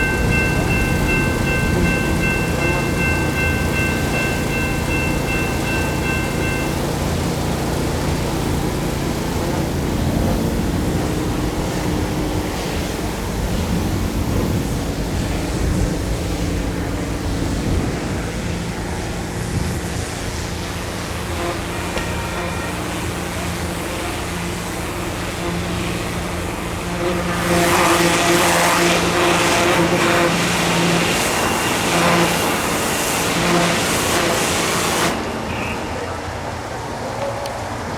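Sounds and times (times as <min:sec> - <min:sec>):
diesel locomotive engine rumble: 0:00.0 - 0:37.9
rushing wind-like noise: 0:00.0 - 0:37.9.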